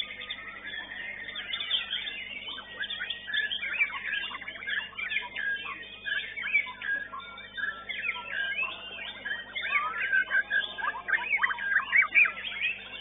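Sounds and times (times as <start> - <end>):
bird singing whistles and chirps: 0.0 - 13.0.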